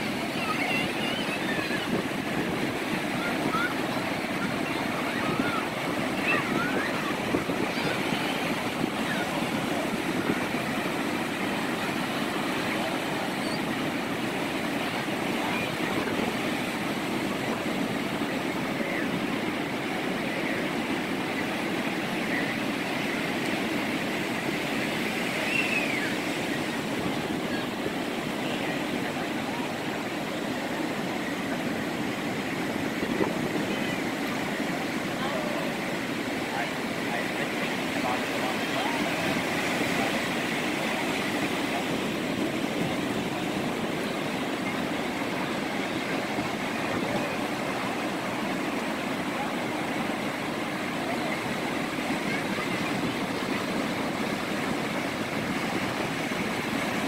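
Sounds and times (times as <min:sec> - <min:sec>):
faint distant voices: 0:00.0 - 0:57.0
ocean surf breaking: 0:00.0 - 0:57.0.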